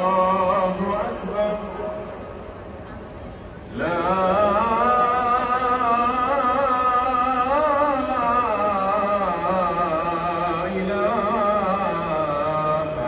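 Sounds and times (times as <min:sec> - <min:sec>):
person chanting melody: 0:00.0 - 0:02.4, 0:03.7 - 0:13.0.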